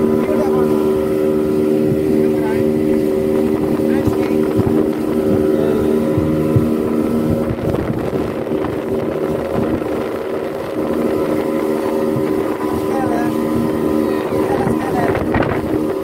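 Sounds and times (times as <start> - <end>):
speedboat engine hum: 0.0 - 16.0.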